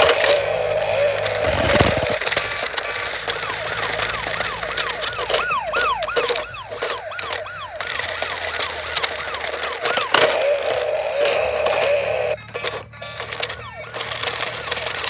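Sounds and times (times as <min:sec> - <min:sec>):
small wheels crackling on asphalt: 0:00.0 - 0:15.0
toy electronic siren wailing: 0:00.0 - 0:15.0.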